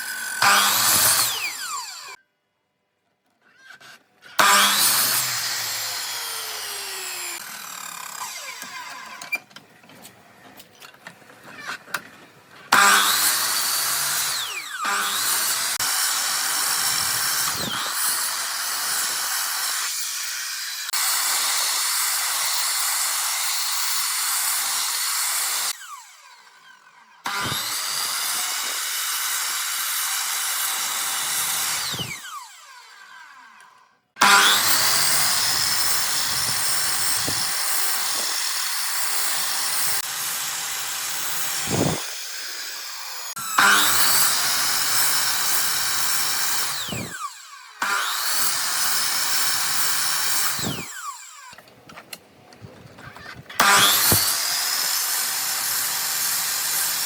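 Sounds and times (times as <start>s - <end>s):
electric power tool cutting wood: 0.0s - 2.2s, 3.5s - 9.5s, 12.7s - 51.6s, 53.0s - 57.0s.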